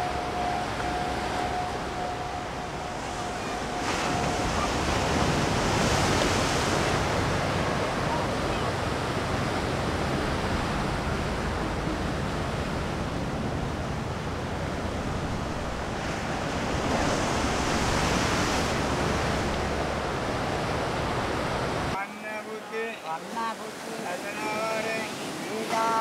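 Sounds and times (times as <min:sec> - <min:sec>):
waves breaking on a beach: 0:00.0 - 0:26.0.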